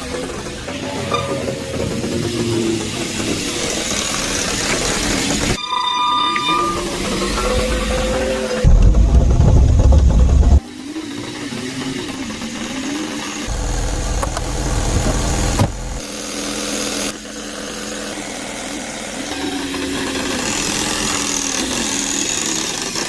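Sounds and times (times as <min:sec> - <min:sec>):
engine running: 0:00.0 - 0:05.6, 0:06.6 - 0:23.0.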